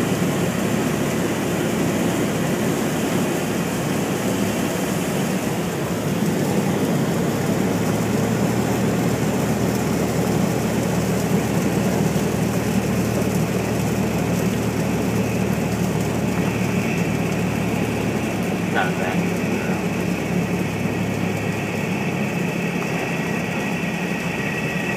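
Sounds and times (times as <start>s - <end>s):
propeller plane engine at low power: 0.0s - 24.9s
wheels rolling noise: 3.1s - 24.9s.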